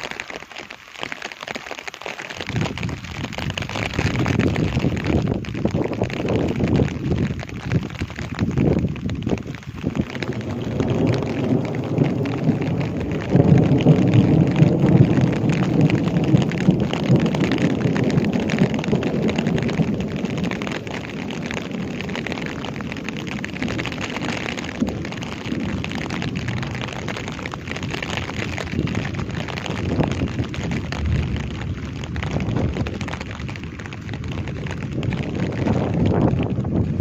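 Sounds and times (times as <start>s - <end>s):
heavy rain pattering: 0.0s - 37.0s.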